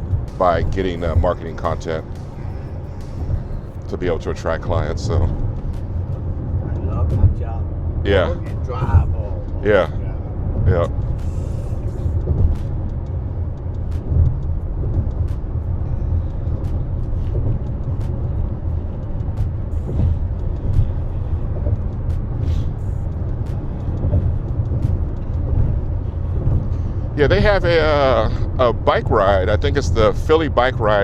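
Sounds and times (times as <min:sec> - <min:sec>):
car cabin road and engine rumble: 0:00.0 - 0:31.0.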